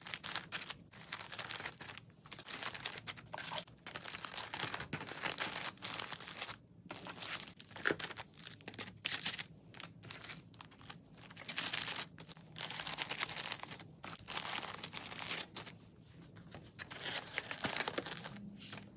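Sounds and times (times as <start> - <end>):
cellophane and paper crinkling: 0.0 - 18.9.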